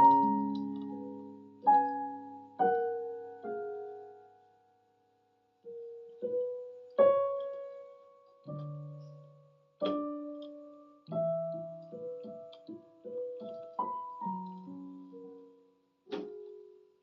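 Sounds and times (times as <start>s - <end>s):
slow electronic keyboard melody: 0.0s - 5.0s, 5.6s - 17.0s.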